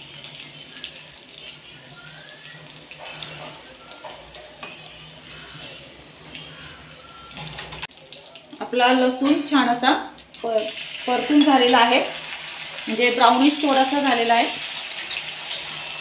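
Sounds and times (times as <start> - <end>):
garlic sizzling in hot fat: 0.0 - 16.0.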